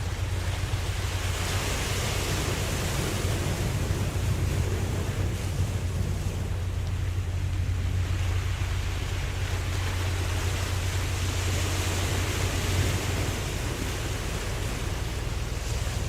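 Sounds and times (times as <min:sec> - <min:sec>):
low rumble: 0:00.0 - 0:16.0
ocean waves washing: 0:00.0 - 0:16.0.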